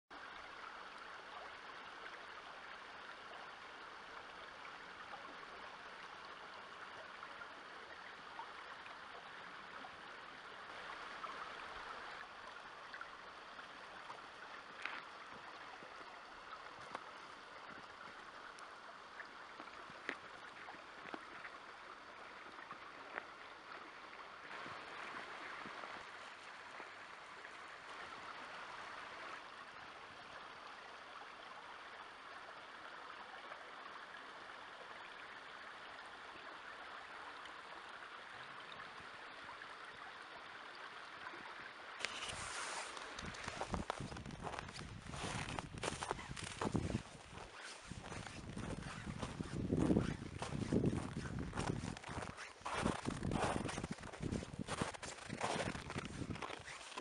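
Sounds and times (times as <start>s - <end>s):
river flowing: 0.1s - 57.0s.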